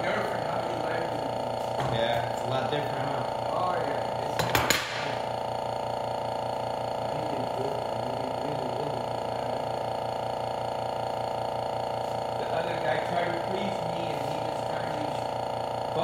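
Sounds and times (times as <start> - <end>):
pulsing mechanical hum: 0.0 - 16.0.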